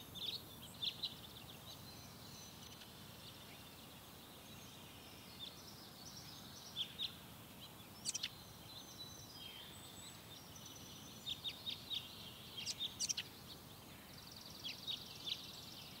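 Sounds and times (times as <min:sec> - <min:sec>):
songbirds chirping: 0:00.0 - 0:16.0
steady outdoor hiss: 0:00.0 - 0:16.0.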